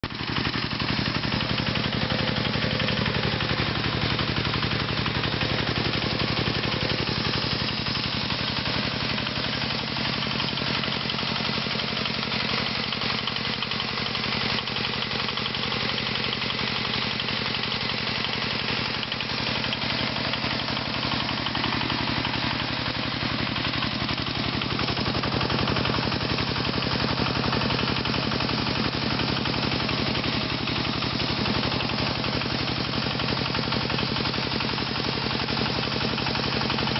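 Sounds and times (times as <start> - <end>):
single-cylinder engine chugging: 0.0 - 36.9.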